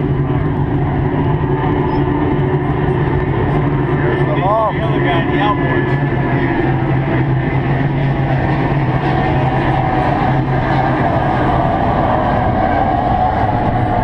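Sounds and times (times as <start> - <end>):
powerboat engines droning: 0.0 - 14.0.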